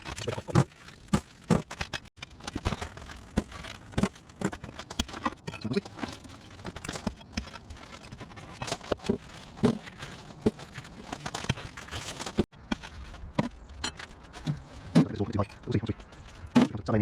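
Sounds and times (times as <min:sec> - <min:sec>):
scraping: 0:00.0 - 0:17.0.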